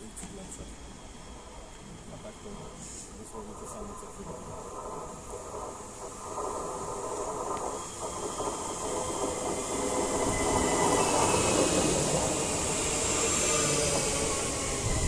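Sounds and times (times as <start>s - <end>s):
electric train motor whine: 0.0s - 15.0s
train wheels rolling on rails: 0.0s - 15.0s.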